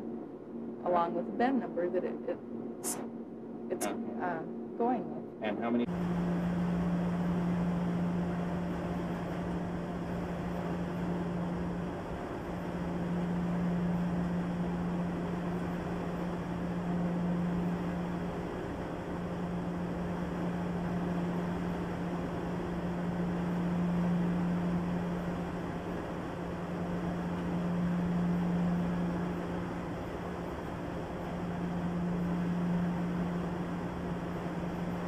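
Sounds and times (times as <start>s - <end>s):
low electronic hum: 0.0s - 35.0s.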